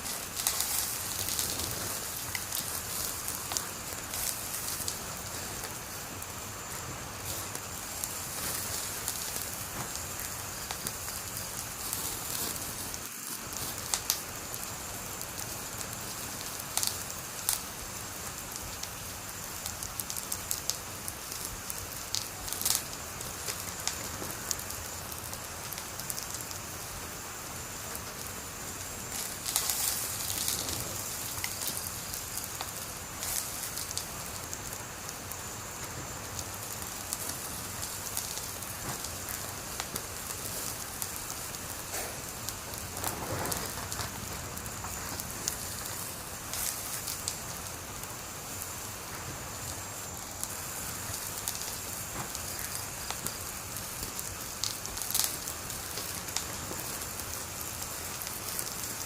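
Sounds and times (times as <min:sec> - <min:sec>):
fire popping and snapping: 0:00.0 - 0:59.0
wood fire crackling: 0:00.0 - 0:59.0.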